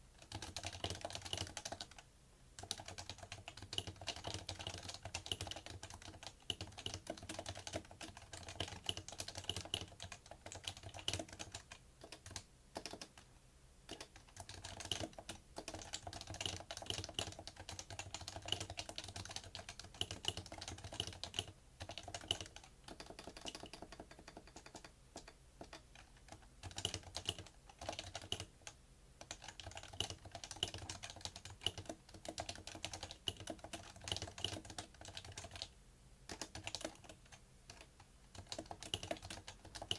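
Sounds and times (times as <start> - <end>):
fast keyboard typing: 0.2 - 2.0, 2.6 - 13.3, 13.9 - 39.9.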